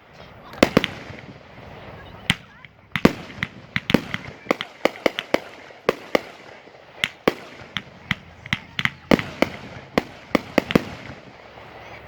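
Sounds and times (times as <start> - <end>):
fireworks bangs and pops: 0.4 - 12.0.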